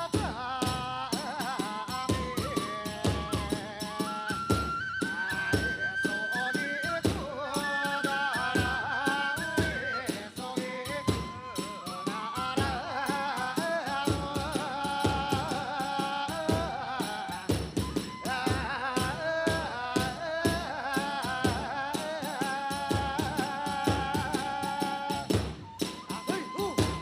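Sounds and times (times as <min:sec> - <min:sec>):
drum strokes: 0:00.0 - 0:27.0
wind instrument melody: 0:01.6 - 0:27.0.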